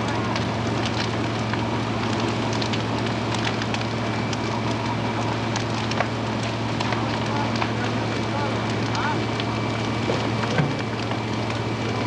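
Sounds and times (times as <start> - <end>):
building fire crackling and popping: 0.0 - 12.0.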